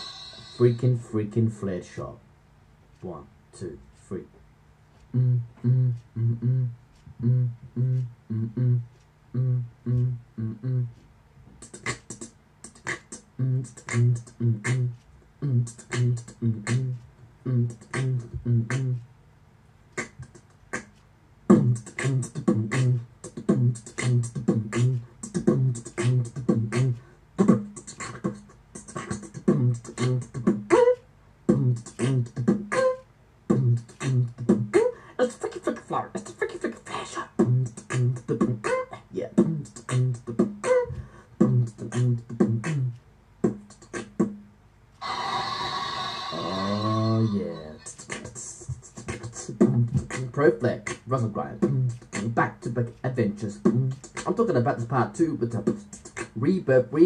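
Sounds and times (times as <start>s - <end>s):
beatboxing: 4.9s - 19.1s, 19.9s - 44.4s, 45.0s - 57.0s.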